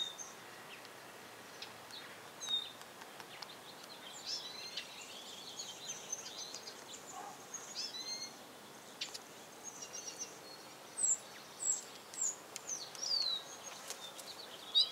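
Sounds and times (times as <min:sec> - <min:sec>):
songbirds chirping and twittering: 0:00.0 - 0:14.9.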